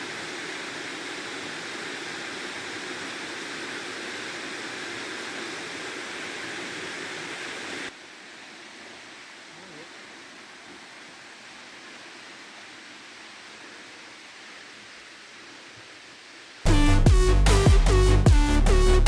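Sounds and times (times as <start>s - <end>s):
quiet hiss: 0.0s - 18.2s.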